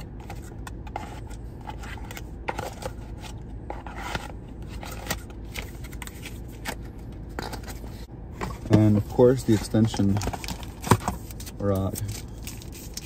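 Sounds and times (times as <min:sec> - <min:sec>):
steady low hum: 0:00.0 - 0:13.0
packaging rustling and scraping: 0:00.2 - 0:13.0.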